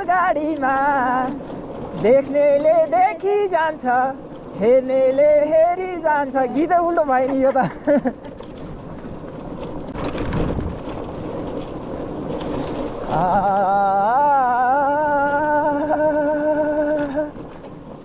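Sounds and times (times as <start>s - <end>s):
motorcycle riding: 0.0s - 18.0s
wind buffeting microphone: 0.0s - 18.0s.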